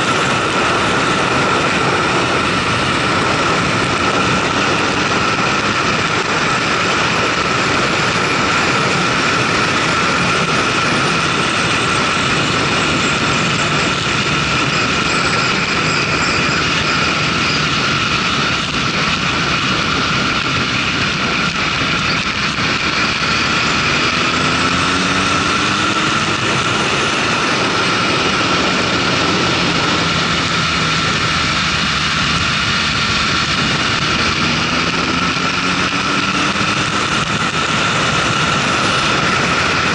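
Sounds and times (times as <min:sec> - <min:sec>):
motorcycle engine running: 0:00.0 - 0:39.9
wind rushing over camera: 0:00.0 - 0:39.9.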